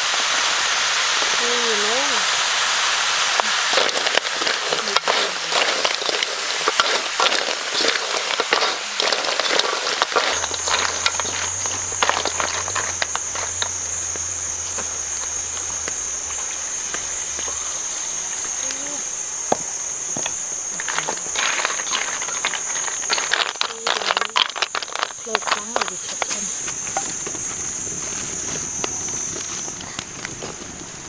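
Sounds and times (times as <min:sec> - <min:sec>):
food sizzling over a fire: 0:00.0 - 0:31.0
insects droning: 0:00.0 - 0:31.0.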